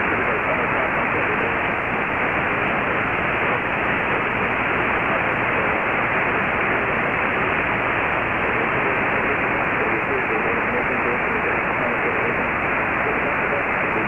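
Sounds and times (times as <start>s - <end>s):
faint man's voice on radio: 0.0s - 14.0s
shortwave radio static: 0.0s - 14.0s.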